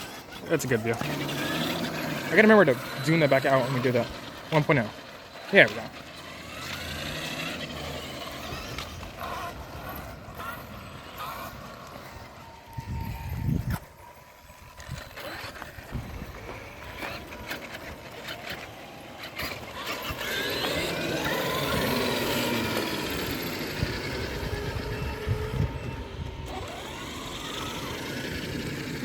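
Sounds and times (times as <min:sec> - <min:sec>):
rc truck motors whining: 0:00.0 - 0:29.0.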